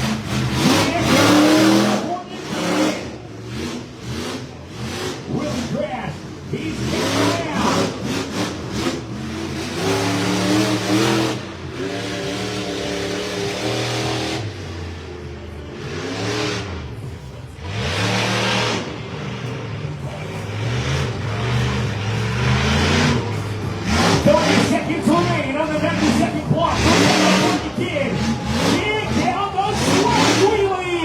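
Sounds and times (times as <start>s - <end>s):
truck engine revving hard: 0.0s - 31.0s.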